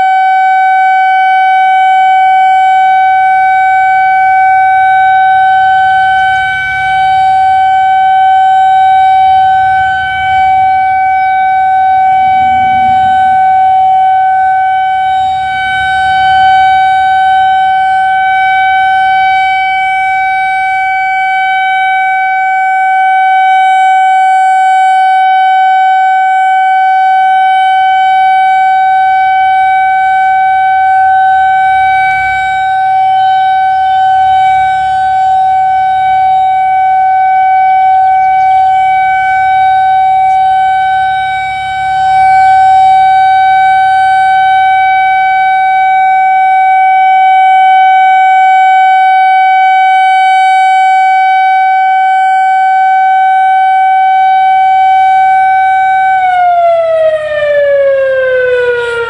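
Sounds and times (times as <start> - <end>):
storm warning siren steady tone: 0.0 - 59.0.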